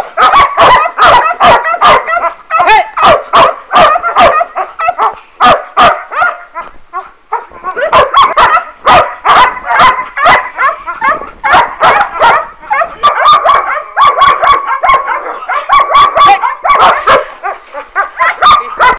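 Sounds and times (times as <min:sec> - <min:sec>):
puppies barking and yipping: 0:00.0 - 0:18.9.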